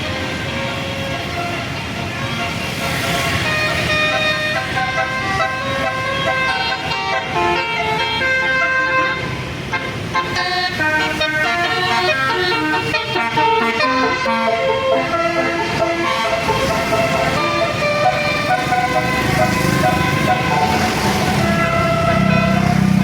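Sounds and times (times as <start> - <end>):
bus musical horn melody: 0.0 - 23.0
low traffic rumble: 0.0 - 23.0.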